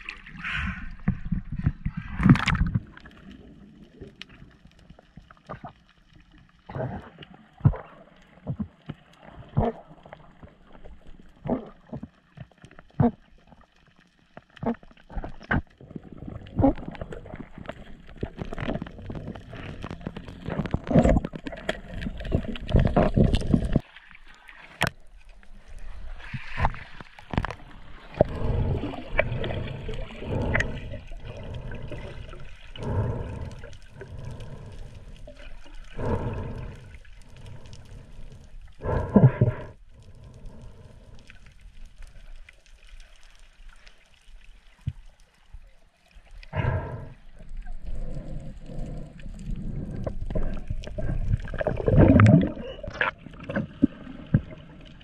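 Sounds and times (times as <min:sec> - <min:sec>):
muffled underwater bubbling: 0:00.0 - 0:23.8, 0:24.8 - 0:42.4, 0:46.5 - 0:55.0.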